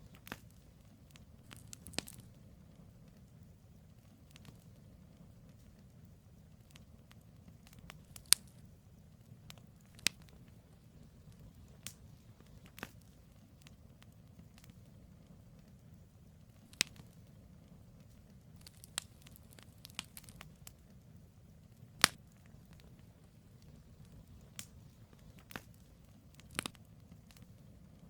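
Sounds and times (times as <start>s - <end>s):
campfire crackles and pops: 0.0s - 28.0s
low rumble of flames: 0.0s - 28.0s.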